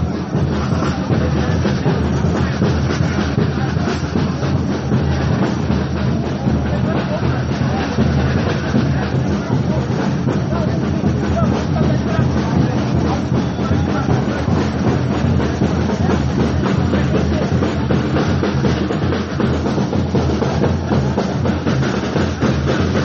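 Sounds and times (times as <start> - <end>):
deep bass drums: 0.0 - 23.0.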